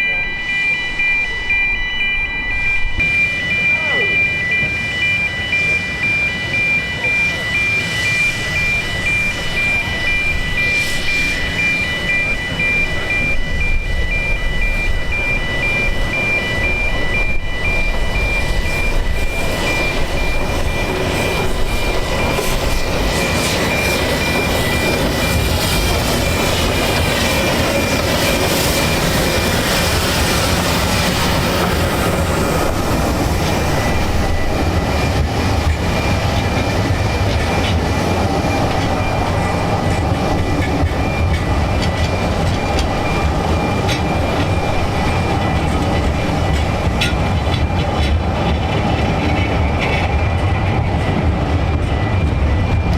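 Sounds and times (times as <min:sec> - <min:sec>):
faint high ringing: 0:00.0 - 0:47.8
train rumbling on rails: 0:00.0 - 0:52.9.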